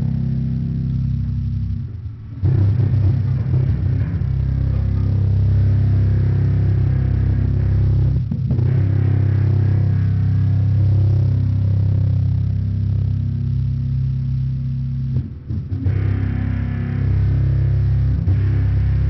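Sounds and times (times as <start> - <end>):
distorted electric guitars and bass: 0.0 - 19.0.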